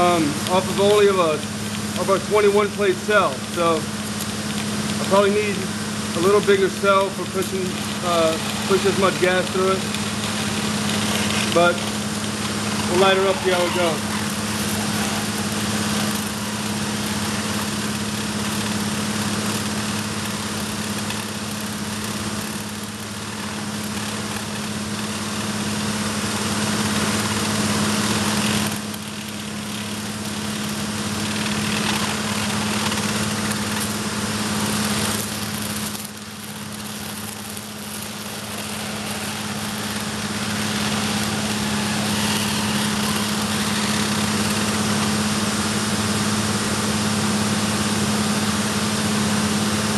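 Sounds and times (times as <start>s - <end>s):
steady low hum: 0.0s - 49.9s
torch flame hissing: 0.0s - 49.9s.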